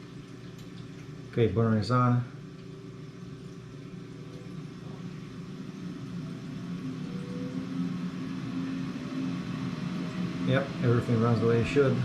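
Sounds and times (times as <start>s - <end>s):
steady low tones: 0.0s - 12.0s
water heater hum and rush: 0.0s - 12.0s.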